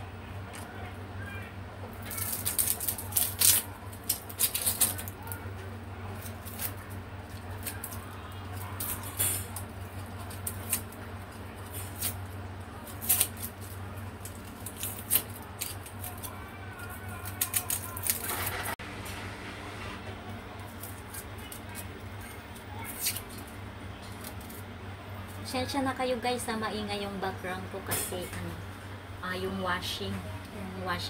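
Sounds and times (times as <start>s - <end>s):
washing machine humming: 0.0s - 31.0s.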